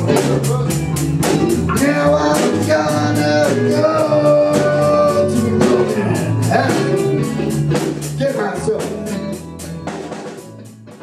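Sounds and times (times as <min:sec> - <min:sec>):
rock band playing: 0:00.0 - 0:11.0.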